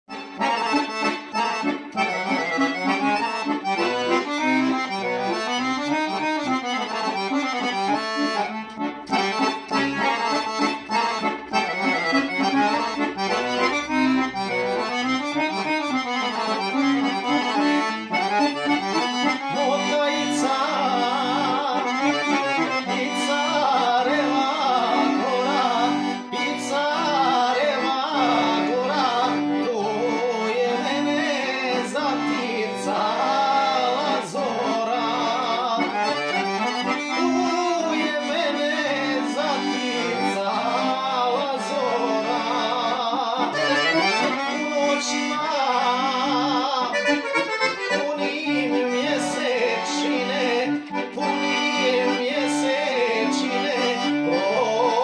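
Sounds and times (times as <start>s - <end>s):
piano accordion folk melody: 0.0s - 55.0s.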